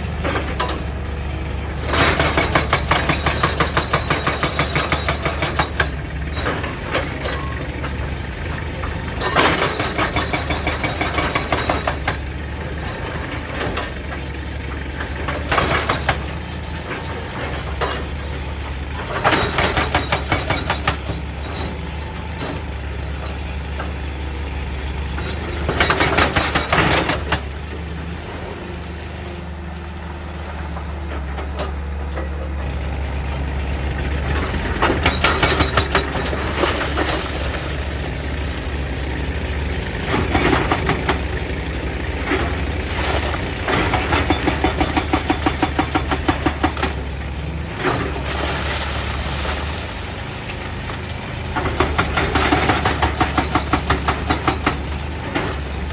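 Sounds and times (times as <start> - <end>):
excavator diesel engine running: 0.0 - 55.9
hydraulic breaker hammering rock: 0.1 - 24.0, 25.1 - 27.9, 33.8 - 48.3, 51.4 - 55.9.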